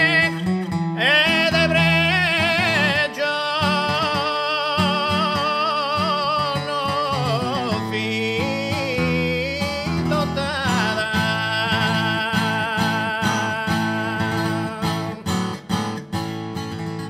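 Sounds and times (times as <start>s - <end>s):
person singing with accompaniment: 0.0s - 15.7s.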